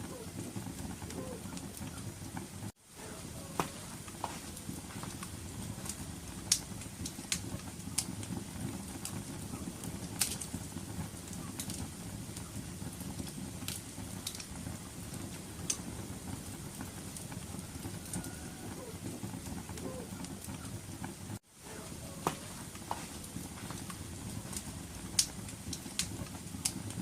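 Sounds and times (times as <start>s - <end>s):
fire crackling and popping: 0.0s - 27.0s
fire roaring: 0.0s - 27.0s.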